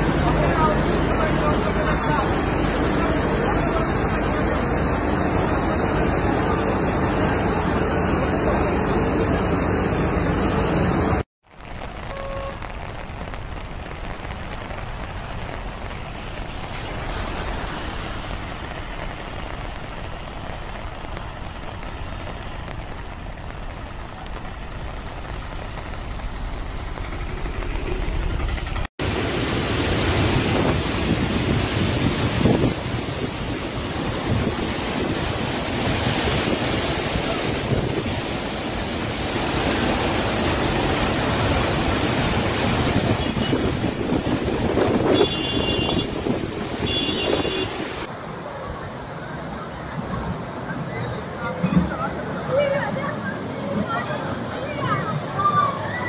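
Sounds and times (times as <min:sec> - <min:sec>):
floodwater rushing down hillside: 0:00.0 - 0:10.4, 0:11.4 - 0:56.0
distant waterfalls: 0:00.0 - 0:56.0
heavy rain rushing: 0:00.0 - 0:56.0.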